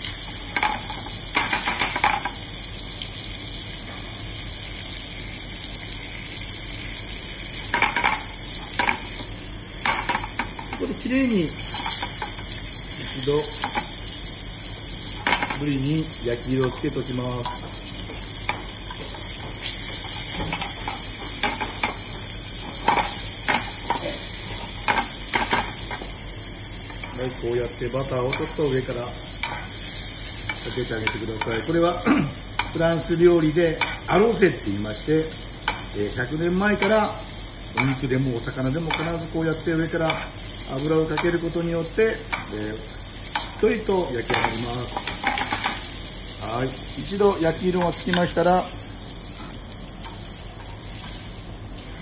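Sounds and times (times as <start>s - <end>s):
fish sizzling in butter: 0.0s - 52.0s.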